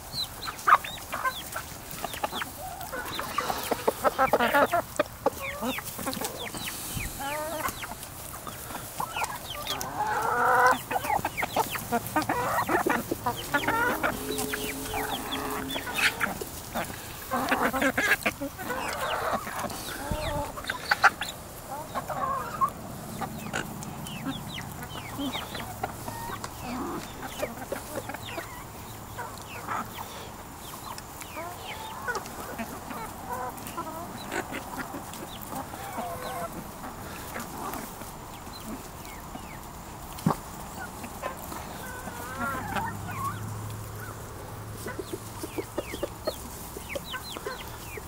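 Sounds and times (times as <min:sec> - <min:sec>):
hens clucking: 0:00.0 - 0:48.0.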